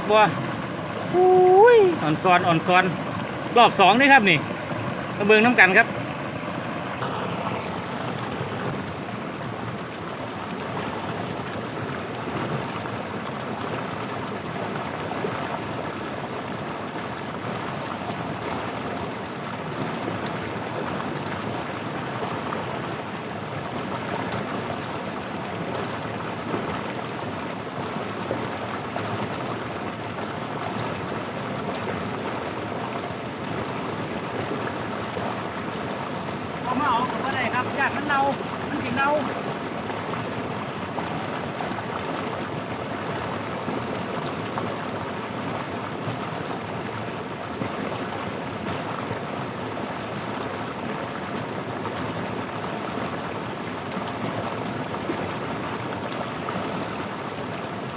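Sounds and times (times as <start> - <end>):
floodwater rushing: 0.0 - 57.9.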